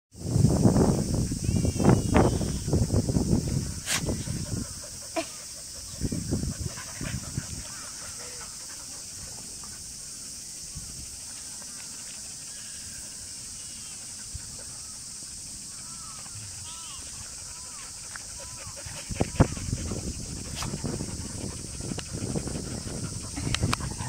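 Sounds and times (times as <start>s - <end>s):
steady high hiss: 0.2s - 24.0s.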